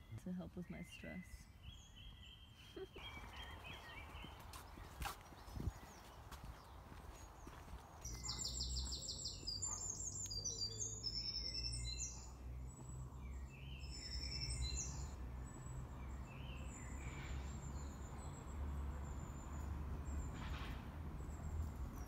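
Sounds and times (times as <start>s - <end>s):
songbirds chirping and trilling: 0.0s - 22.0s.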